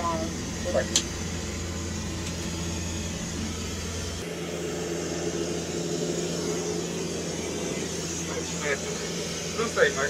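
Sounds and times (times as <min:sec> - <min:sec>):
aircraft cabin engine drone: 0:00.0 - 0:10.0
higher steady tone: 0:00.0 - 0:10.0.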